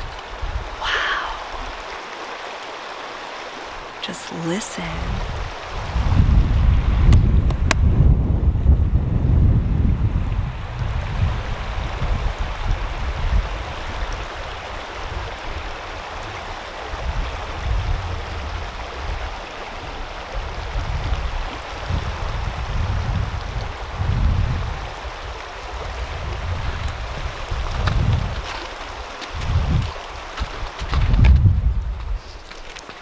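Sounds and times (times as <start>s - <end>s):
wind buffeting microphone: 0.0s - 1.8s, 5.0s - 32.6s
creek running over rocks: 0.0s - 7.4s, 10.3s - 33.0s.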